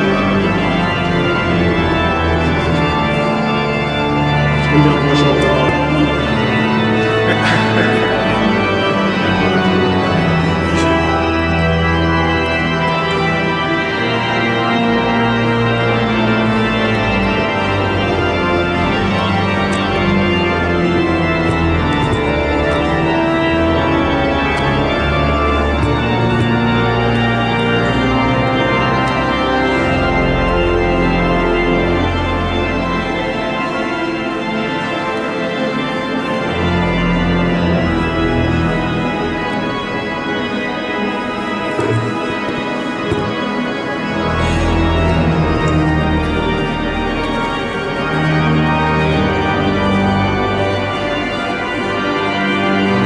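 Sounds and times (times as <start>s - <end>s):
pipe organ chords: 0.0s - 53.0s.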